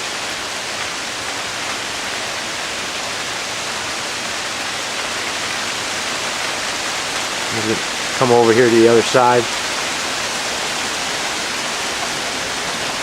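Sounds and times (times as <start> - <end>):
heavy rain on pavement and roof: 0.0 - 13.0.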